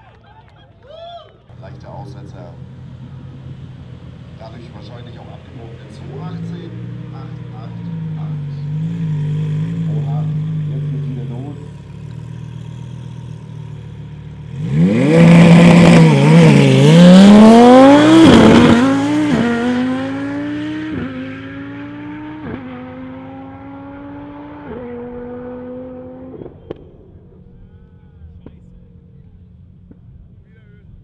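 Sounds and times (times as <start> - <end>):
car engine launching and upshifting: 1.6 - 27.4.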